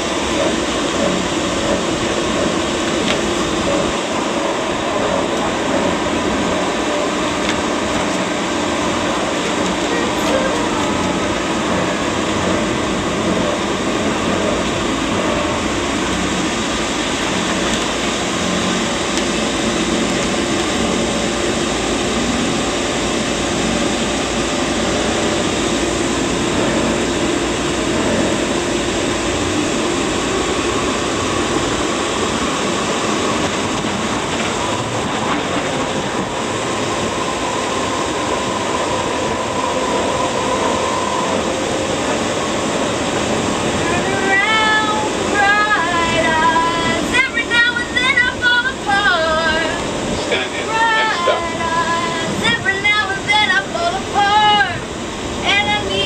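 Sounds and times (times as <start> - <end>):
light rail car rumbling on track: 0.0 - 56.0.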